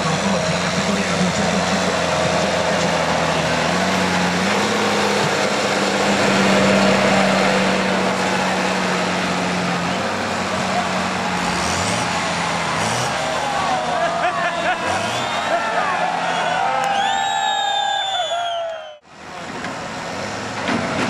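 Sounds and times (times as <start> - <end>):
tractor diesel engine under load: 0.0 - 18.2, 18.9 - 21.0.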